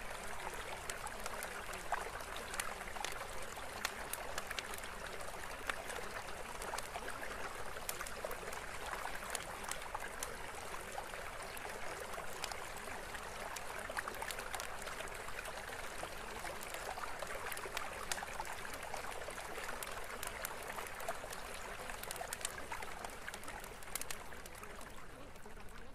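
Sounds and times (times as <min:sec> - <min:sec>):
running water trickling: 0:00.0 - 0:25.9.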